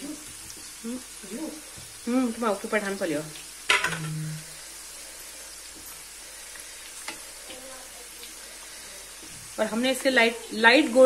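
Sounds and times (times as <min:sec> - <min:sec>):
pastries deep-frying in oil: 0:00.0 - 0:11.0.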